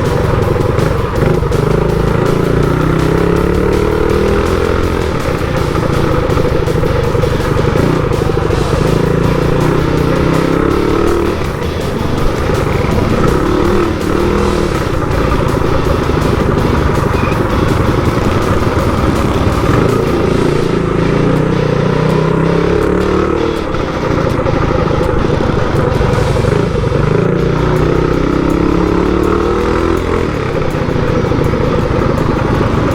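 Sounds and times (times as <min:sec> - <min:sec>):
motorbike engine revving: 0:00.0 - 0:32.9.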